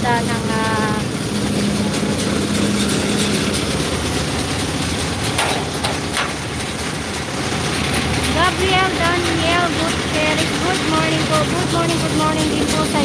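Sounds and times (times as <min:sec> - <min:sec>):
road traffic noise: 0:00.0 - 0:13.0
truck engine idling: 0:00.0 - 0:13.0.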